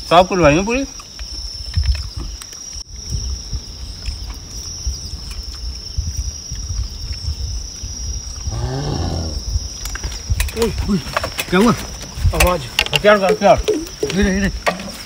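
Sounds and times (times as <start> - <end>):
crickets chirping: 0.0 - 15.0
wind buffeting microphone: 0.2 - 15.0.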